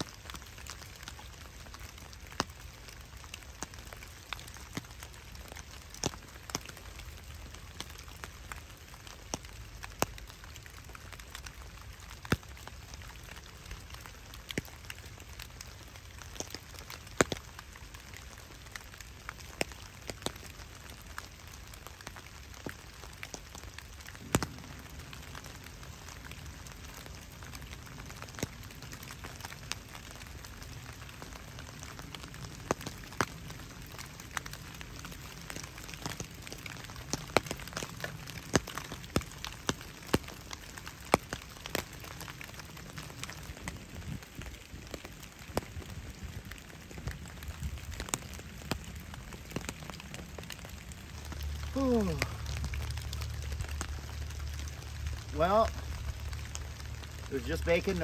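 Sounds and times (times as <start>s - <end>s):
steady rain in woodland: 0.0s - 58.0s.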